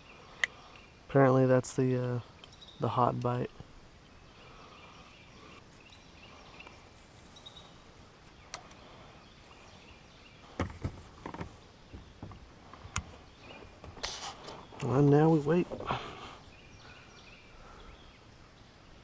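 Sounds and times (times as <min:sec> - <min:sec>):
faint river ambience: 0:00.0 - 0:19.0.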